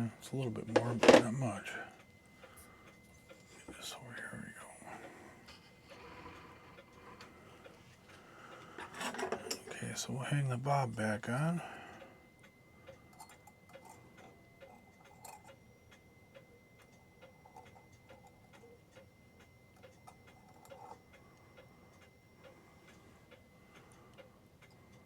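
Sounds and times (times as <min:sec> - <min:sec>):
pendulum clock ticking: 0:00.0 - 0:25.0.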